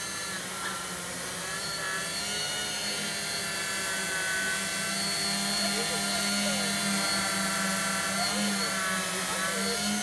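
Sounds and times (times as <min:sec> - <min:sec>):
drone motors and propellers whining: 0:00.0 - 0:10.0.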